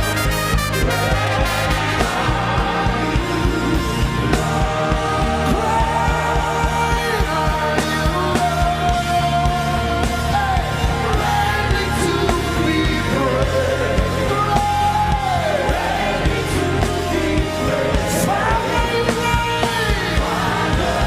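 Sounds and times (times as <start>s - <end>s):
gospel band with drums and bass: 0.0s - 21.0s.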